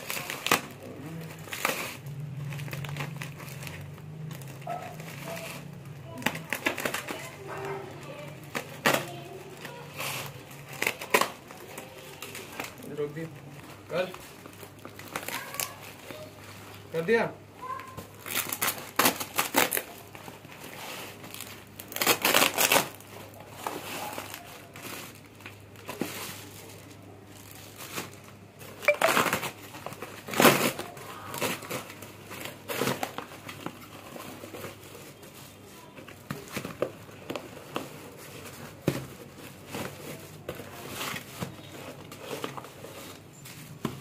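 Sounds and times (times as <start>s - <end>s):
packaging crinkling and ripping: 0.0s - 44.0s.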